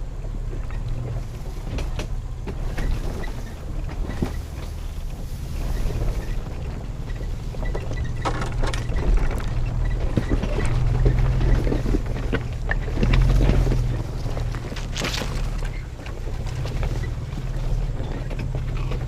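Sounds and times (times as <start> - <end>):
low engine drone: 0.0 - 19.0
truck rattling over rough ground: 0.0 - 19.0.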